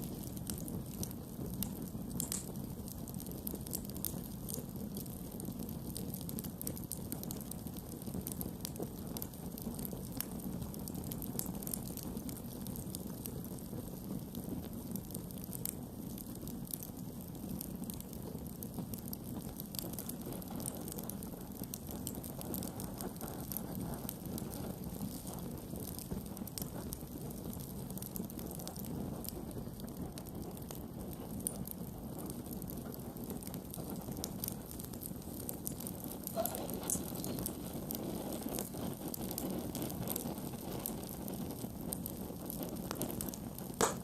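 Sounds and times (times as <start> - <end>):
campfire wood crackling: 0.0 - 44.0
low fire rumble: 0.0 - 44.0.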